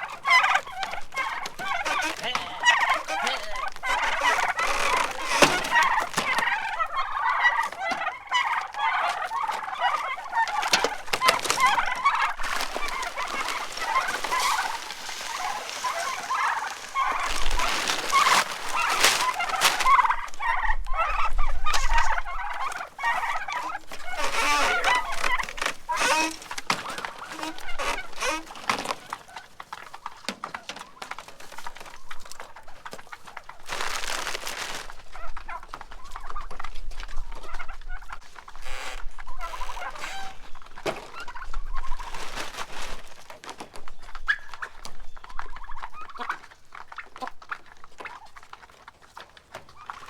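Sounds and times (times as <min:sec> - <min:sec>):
flock of birds chattering: 0:00.0 - 0:50.0.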